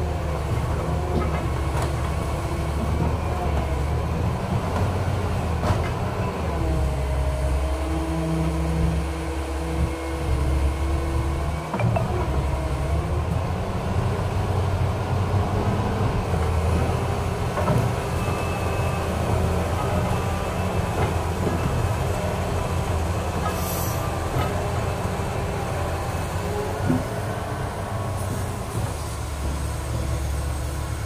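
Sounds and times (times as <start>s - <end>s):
excavator diesel engine under load: 0.0s - 31.0s.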